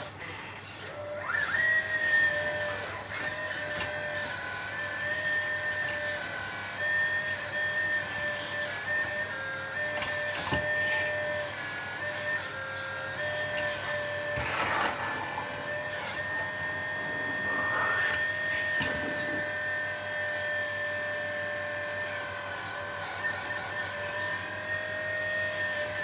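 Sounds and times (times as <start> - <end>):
toy excavator motor whining: 0.0 - 26.0.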